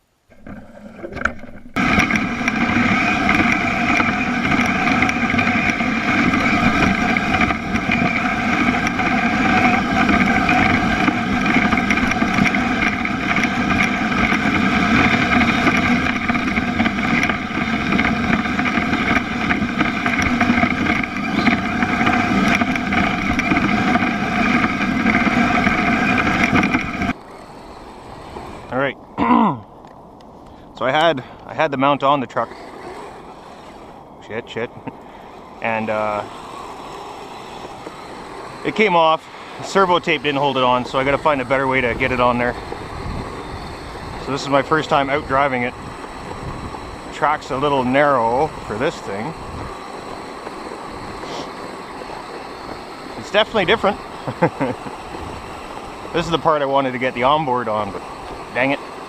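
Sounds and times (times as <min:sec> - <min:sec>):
motor humming steadily: 0:00.0 - 0:59.0.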